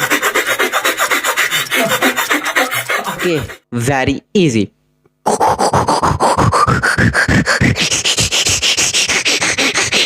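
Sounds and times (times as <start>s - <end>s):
beatboxed rasping rubbing sound: 0.0s - 3.7s, 5.2s - 10.0s.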